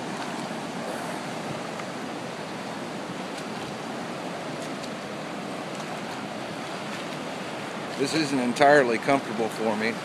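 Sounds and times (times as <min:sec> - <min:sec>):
ocean surf washing over rocks: 0:00.0 - 0:10.0.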